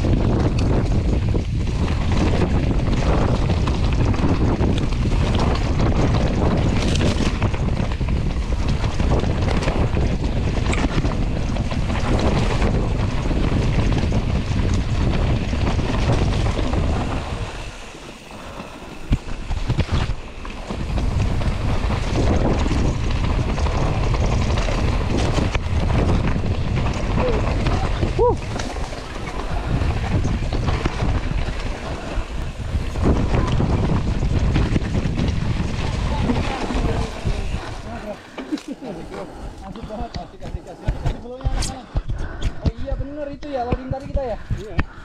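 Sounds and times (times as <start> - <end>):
tyre and bike rattle: 0.0 - 45.0
wind buffeting microphone: 0.0 - 45.0.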